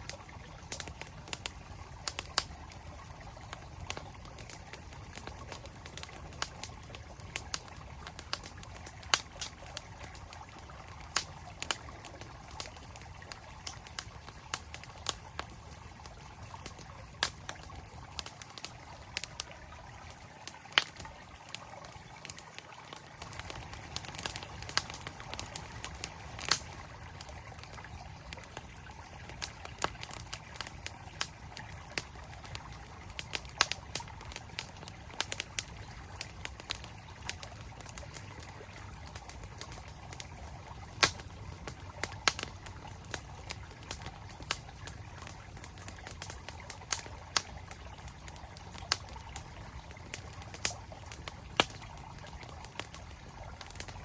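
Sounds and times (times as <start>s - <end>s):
campfire wood crackling and popping: 0.0s - 54.0s
mountain stream flowing: 0.0s - 54.0s.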